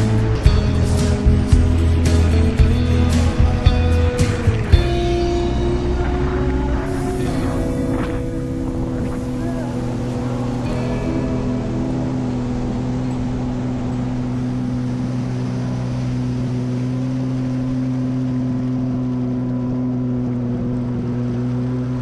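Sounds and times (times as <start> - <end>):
jet ski engine running: 0.0 - 22.0
water rushing and spraying: 0.0 - 22.0.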